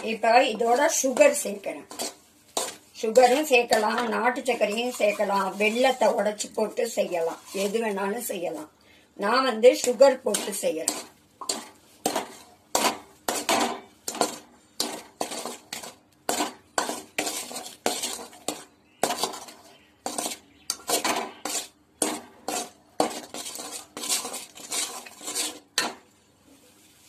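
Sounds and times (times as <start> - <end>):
metal spoon scraping a pan: 0.0 - 8.6, 9.5 - 26.1.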